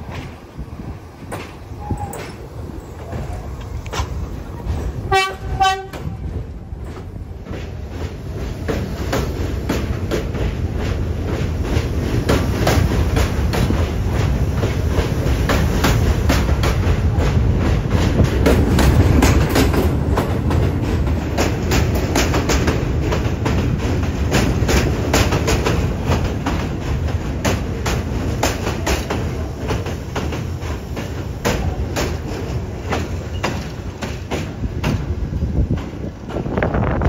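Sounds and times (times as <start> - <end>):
train rumbling on elevated track: 0.0 - 37.0
wheels clacking over rail joints: 0.0 - 37.0.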